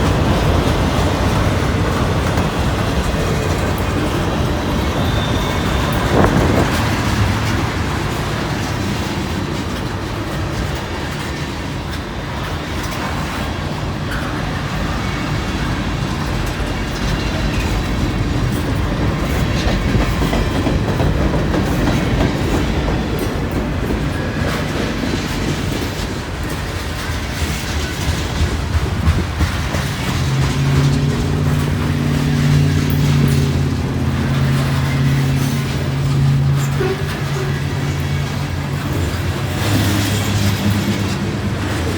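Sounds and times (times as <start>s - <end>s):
freight train wheels clacking: 0.0s - 41.9s.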